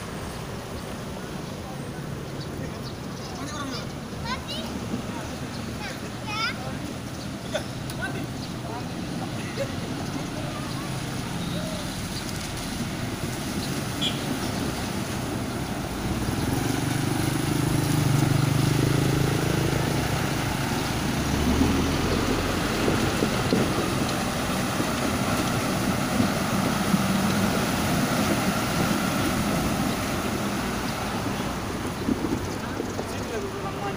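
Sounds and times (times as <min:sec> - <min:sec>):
diesel truck engines running: 0:00.0 - 0:33.9
water sloshing around wheels: 0:00.0 - 0:33.9.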